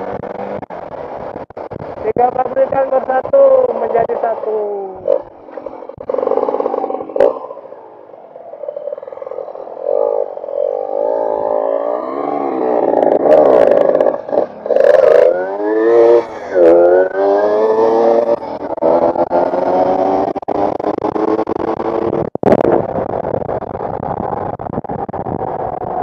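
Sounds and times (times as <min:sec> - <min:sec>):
motorcycle engines accelerating: 0:00.0 - 0:26.0.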